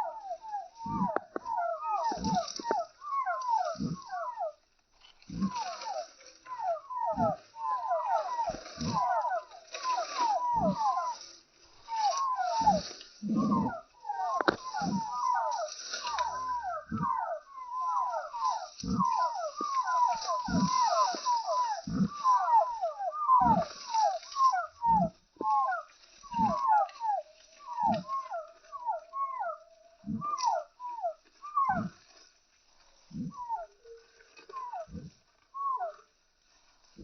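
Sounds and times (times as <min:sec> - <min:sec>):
chickens chirping: 0:00.0 - 0:04.6, 0:05.3 - 0:31.9.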